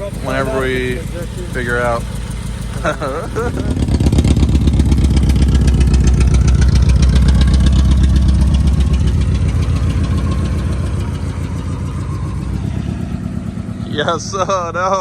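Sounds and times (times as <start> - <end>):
engine running uneven with misfire: 0.0 - 15.0.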